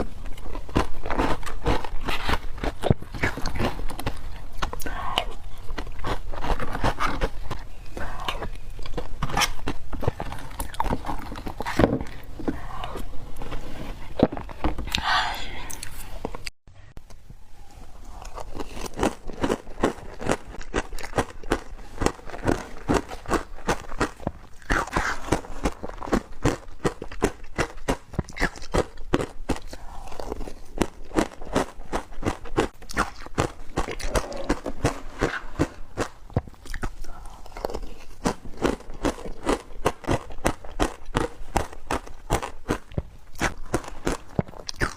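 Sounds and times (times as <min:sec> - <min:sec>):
bites crunching into frozen ice: 0:00.3 - 0:13.1, 0:18.2 - 0:44.9.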